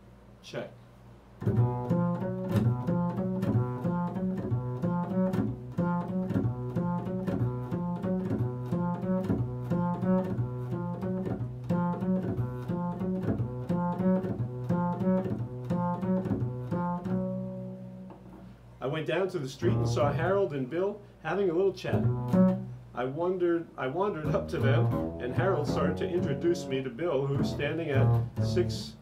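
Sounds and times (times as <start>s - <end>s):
double bass plucked pizzicato: 1.4s - 18.5s, 19.6s - 20.4s, 21.9s - 22.9s, 23.9s - 29.0s.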